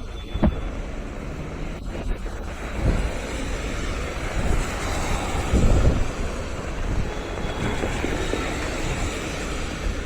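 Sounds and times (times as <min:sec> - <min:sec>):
outdoor rushing noise: 0:00.0 - 0:10.0
wind buffeting microphone: 0:00.0 - 0:10.0.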